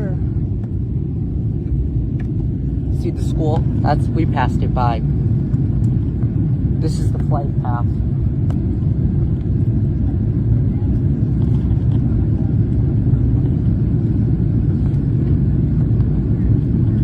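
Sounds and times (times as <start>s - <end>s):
jet engines rumbling: 0.0s - 17.0s
rushing air in cabin: 0.0s - 17.0s.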